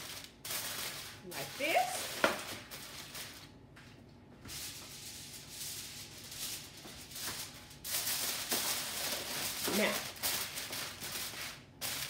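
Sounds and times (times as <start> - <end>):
aluminium foil crinkling: 0.0 - 3.6, 4.5 - 12.0.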